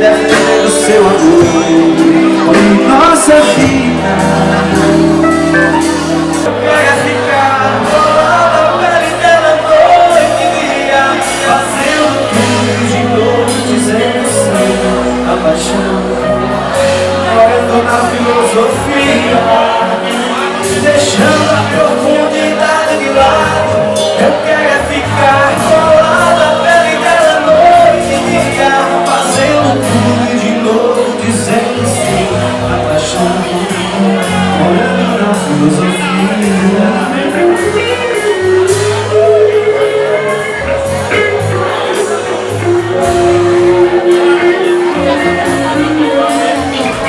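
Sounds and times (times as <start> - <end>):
live band playing a song: 0.0 - 47.0.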